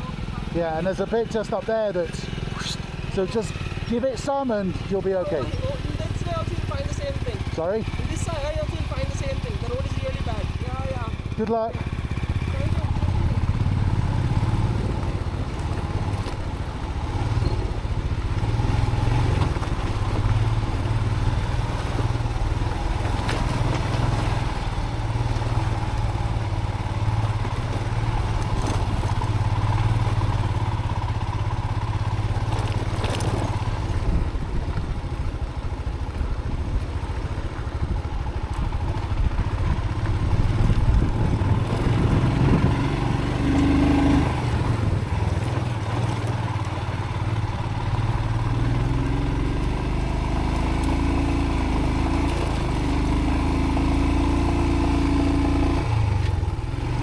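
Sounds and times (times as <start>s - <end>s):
motorcycle engine at low speed: 0.0s - 57.0s.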